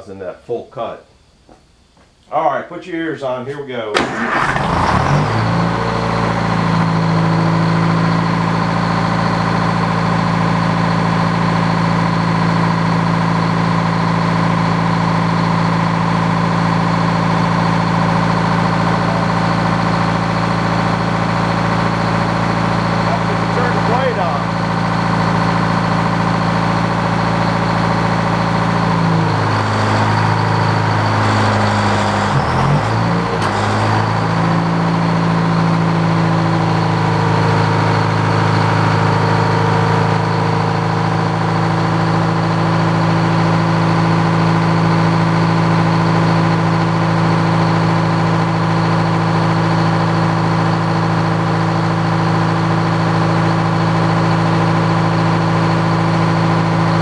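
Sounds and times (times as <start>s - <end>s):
sawmill engine running: 4.0s - 57.0s.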